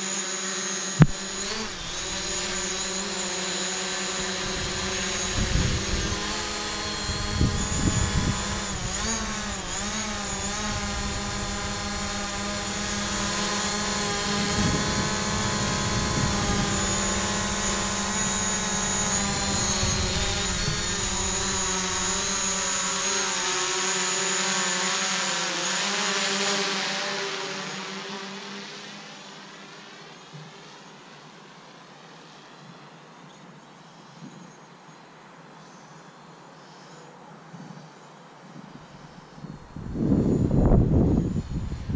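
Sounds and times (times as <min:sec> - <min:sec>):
drone propellers whining: 0:00.0 - 0:33.0, 0:38.5 - 0:41.9.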